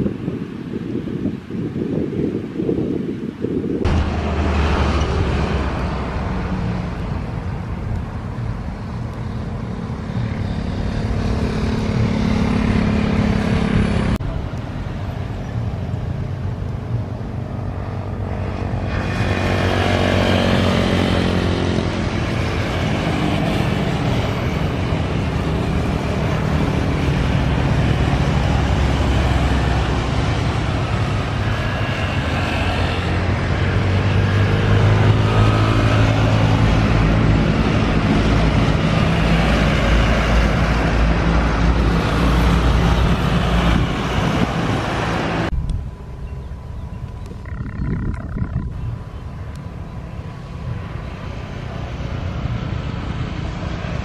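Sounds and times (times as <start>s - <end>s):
cars and motorcycles passing: 0.0s - 54.0s
low engine hum: 3.7s - 54.0s.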